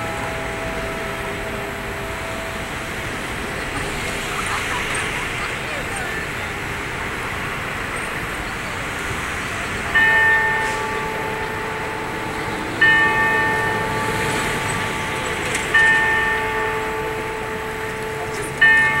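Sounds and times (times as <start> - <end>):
clock tower bell striking: 0.0 - 8.6, 9.6 - 19.0
city traffic noise: 0.0 - 19.0.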